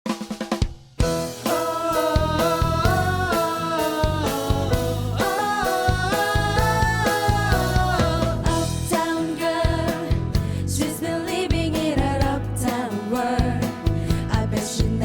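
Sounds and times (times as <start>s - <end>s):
pop-rock band playing: 1.0s - 15.0s.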